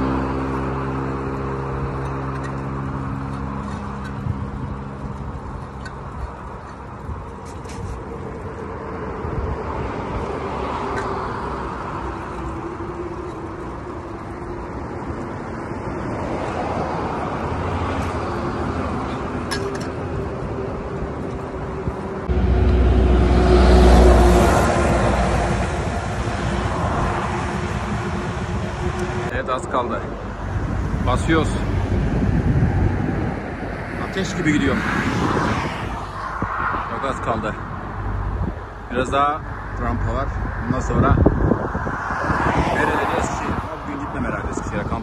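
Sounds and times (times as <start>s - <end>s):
rumble of passing vehicles: 0.0s - 45.0s
vehicle passing close: 7.0s - 45.0s.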